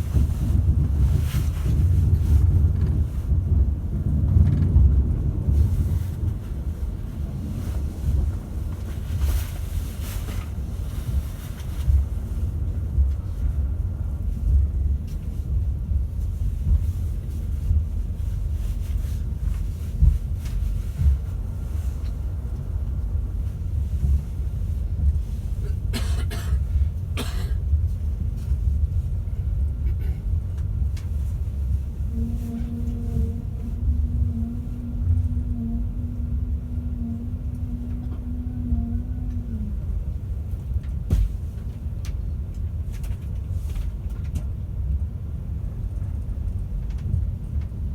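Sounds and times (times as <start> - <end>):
train running gear rumble: 0.0 - 47.9.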